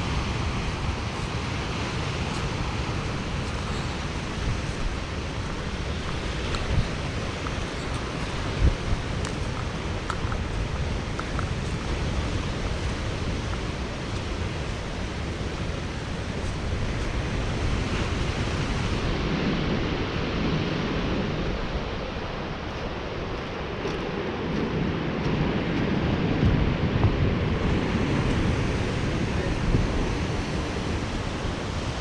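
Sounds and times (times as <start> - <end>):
waves: 0.0 - 32.0
wind: 0.0 - 32.0
wind buffeting microphone: 0.0 - 32.0.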